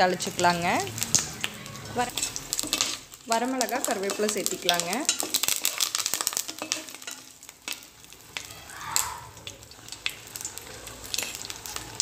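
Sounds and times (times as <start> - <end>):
spices sizzling and popping in oil: 0.0 - 12.0
wooden spatula stirring: 0.1 - 12.0.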